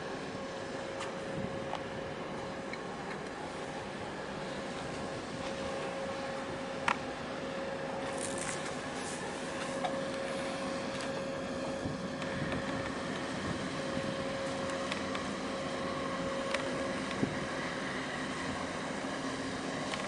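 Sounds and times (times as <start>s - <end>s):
distant ship engines droning: 0.0s - 20.0s.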